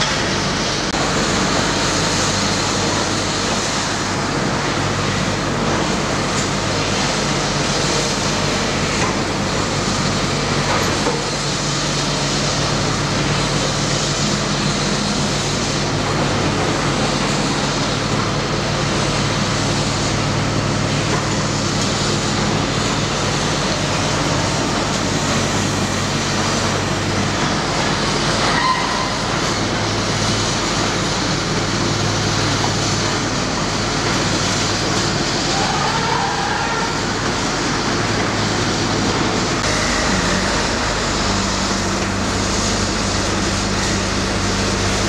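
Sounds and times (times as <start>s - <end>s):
excavator diesel engines droning: 0.0s - 45.0s.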